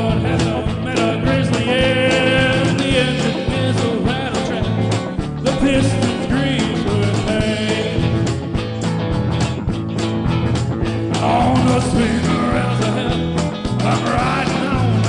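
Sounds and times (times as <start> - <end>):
band playing a song: 0.0 - 15.0
steady drum beat: 0.0 - 15.0.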